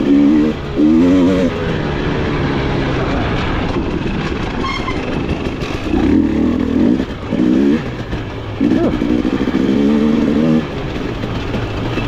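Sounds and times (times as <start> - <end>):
dirt bike engine revving: 0.0 - 3.4, 4.7 - 12.0.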